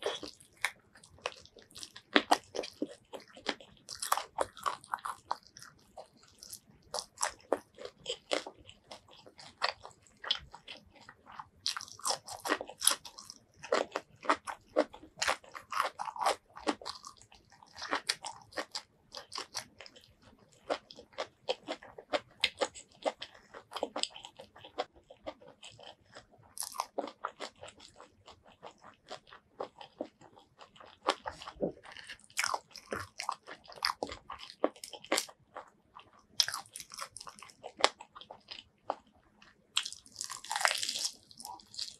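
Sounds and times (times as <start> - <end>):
chewing: 0.0 - 41.9
crunching bites of fried chicken: 0.0 - 41.9.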